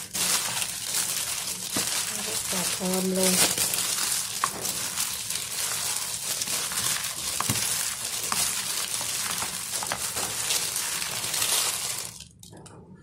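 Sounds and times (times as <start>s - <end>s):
plastic glove crinkling: 0.0s - 12.4s
squishing of meat filling: 0.0s - 12.4s.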